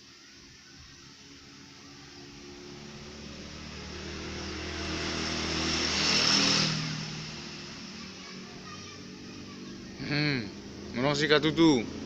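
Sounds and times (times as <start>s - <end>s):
motor vehicle passing by: 0.8s - 12.0s.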